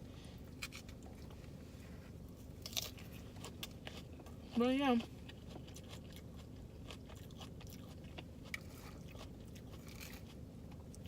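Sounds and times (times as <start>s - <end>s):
person chewing food: 0.4s - 11.0s.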